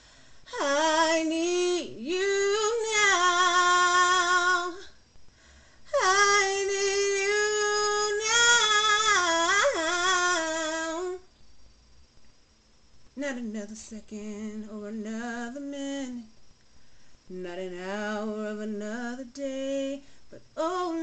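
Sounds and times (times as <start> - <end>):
solo voice singing gospel: 0.0 - 5.0, 5.8 - 11.3, 13.2 - 16.4, 17.3 - 21.0.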